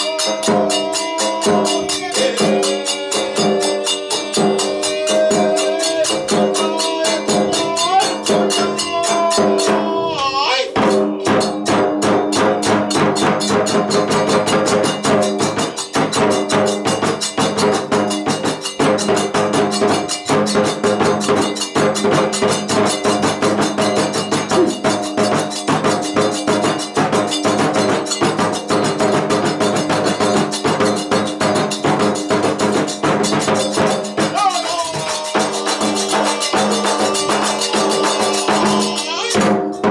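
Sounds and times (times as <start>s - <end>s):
small hand cymbals clashing: 0.0s - 9.9s, 10.9s - 39.9s
fast drum beats: 0.0s - 39.9s.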